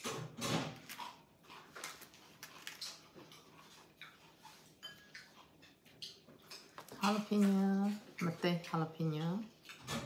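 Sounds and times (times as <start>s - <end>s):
herbs and bread rustling: 0.0s - 9.8s.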